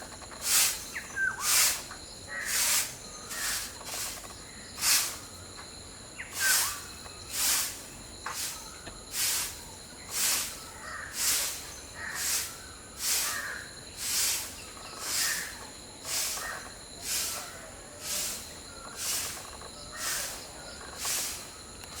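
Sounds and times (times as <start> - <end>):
faint bird chirps: 0.0 - 22.0
rhythmic pulsing insect hiss: 0.0 - 22.0.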